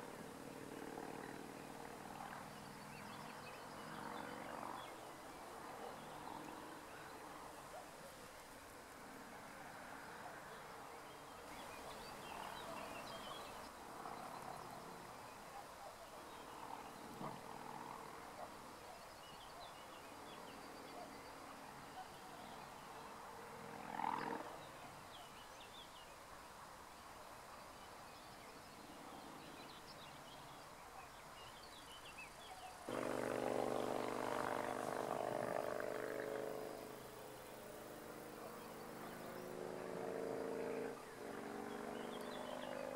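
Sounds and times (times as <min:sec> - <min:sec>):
faint outdoor ambience: 0:00.0 - 0:42.9.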